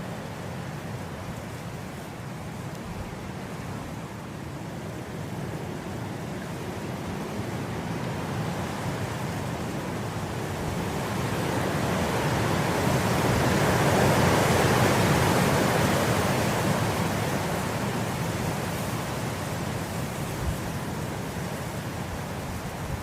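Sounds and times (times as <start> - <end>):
wind blowing through grass: 0.0 - 23.0.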